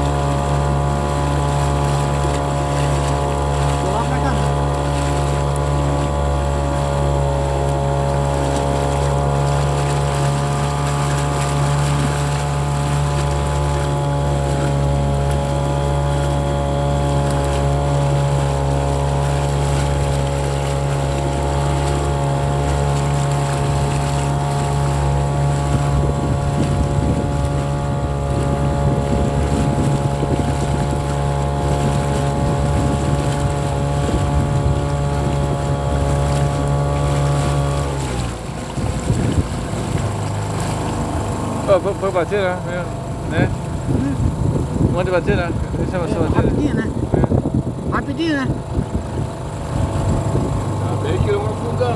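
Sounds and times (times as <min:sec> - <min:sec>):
motorboat engine droning: 0:00.0 - 0:51.9
rough water or wind noise: 0:00.0 - 0:51.9.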